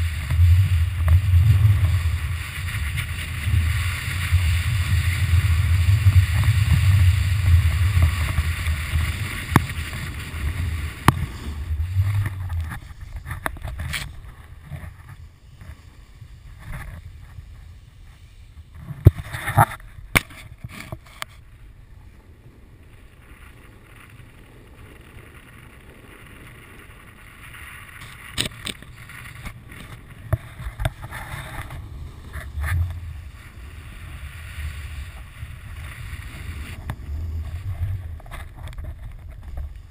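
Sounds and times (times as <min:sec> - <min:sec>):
snowboard sliding over snow: 0:00.0 - 0:39.9
wind buffeting microphone: 0:00.0 - 0:39.9.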